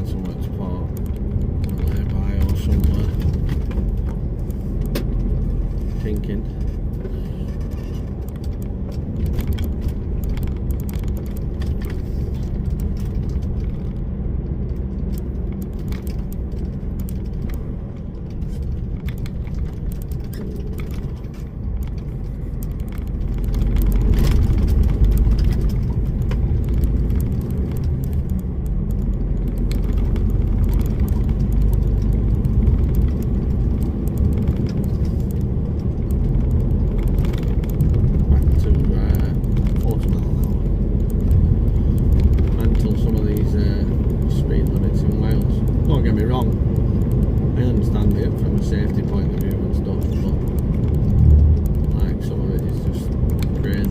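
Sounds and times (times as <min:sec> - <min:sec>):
lorry diesel engine drone: 0:00.0 - 0:53.9.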